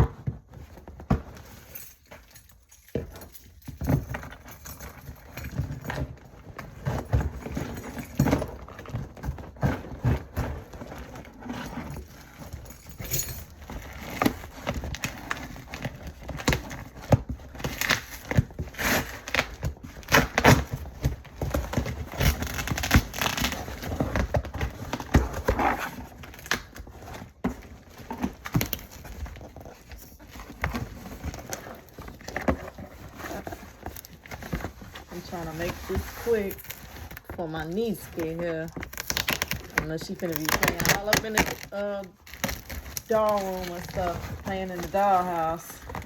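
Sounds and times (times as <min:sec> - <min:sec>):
packaging rustling: 0:00.2 - 0:46.0.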